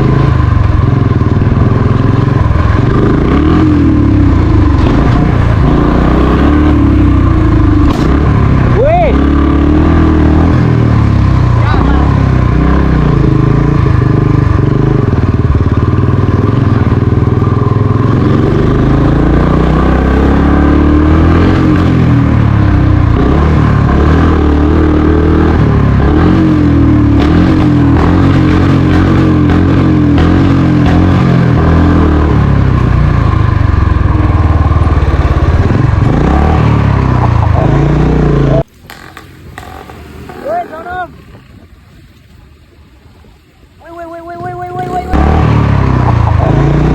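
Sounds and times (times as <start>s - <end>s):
motorcycle engine running: 0.0s - 41.8s, 43.8s - 46.9s.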